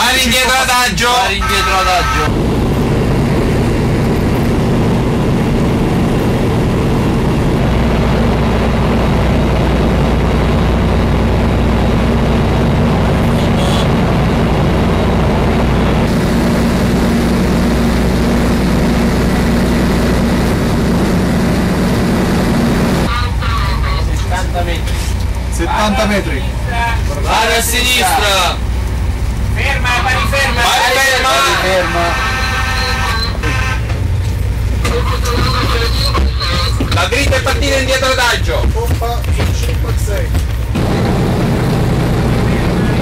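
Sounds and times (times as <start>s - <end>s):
ship engines low drone: 0.0s - 38.6s, 39.9s - 43.0s.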